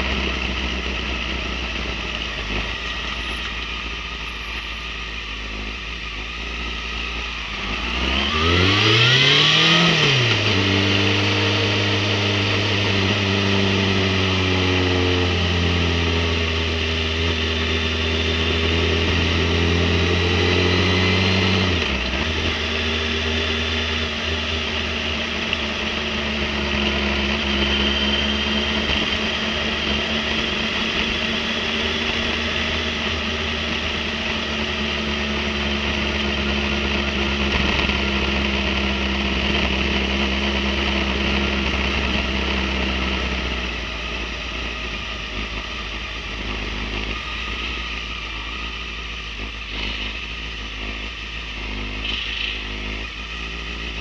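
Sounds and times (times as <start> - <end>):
motorcycle engine at low revs: 0.0 - 54.0.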